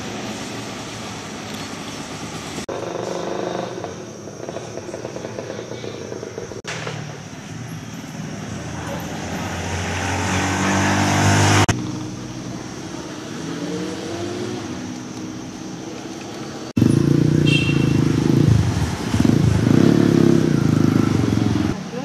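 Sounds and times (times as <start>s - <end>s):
vehicle engines in traffic: 0.0s - 22.0s.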